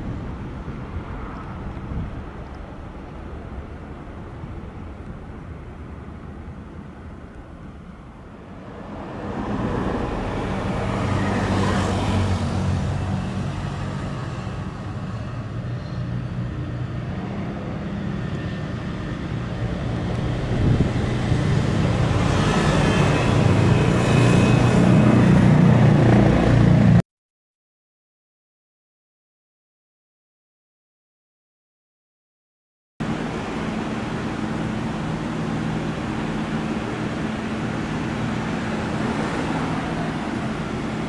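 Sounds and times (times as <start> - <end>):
road traffic rumble: 0.0 - 27.0, 33.0 - 41.0.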